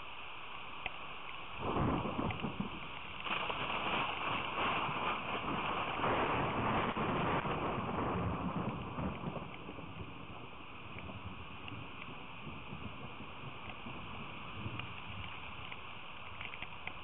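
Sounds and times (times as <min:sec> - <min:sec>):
rain rushing: 0:00.0 - 0:17.0
wind on microphone: 0:01.6 - 0:15.9.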